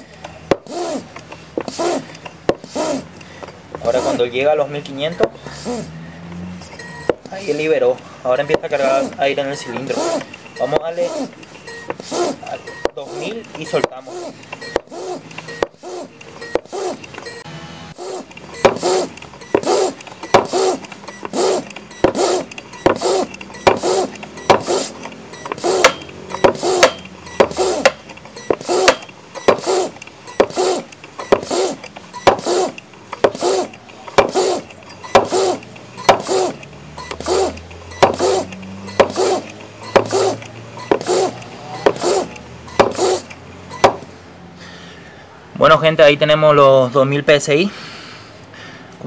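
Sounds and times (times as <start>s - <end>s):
hand air pump puffing: 0.0s - 44.8s.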